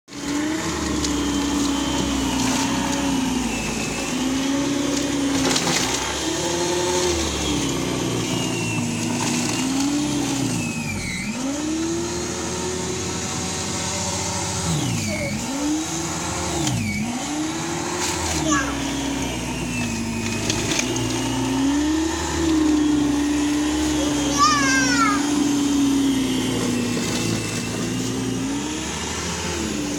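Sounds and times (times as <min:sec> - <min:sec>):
electric snow blower motor whine: 0:00.1 - 0:29.9.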